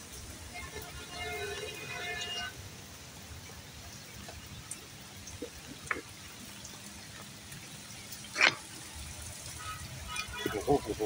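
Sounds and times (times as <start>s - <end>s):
drips: 0.0s - 11.0s
steady rain: 0.0s - 11.0s.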